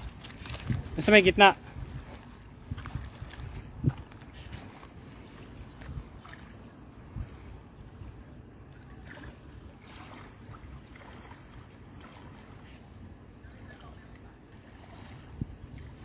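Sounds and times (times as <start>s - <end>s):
river water splashing and trickling: 0.0s - 16.0s.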